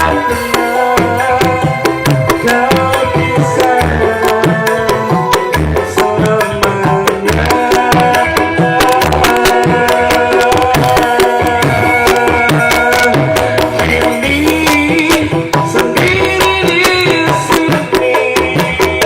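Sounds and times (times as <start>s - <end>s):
drums on a quick beat: 0.0s - 19.0s.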